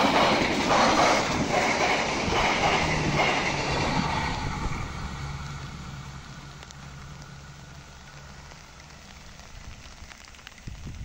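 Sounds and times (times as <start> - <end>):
steady rain hiss: 0.0 - 11.0
train rumbling: 0.0 - 11.0.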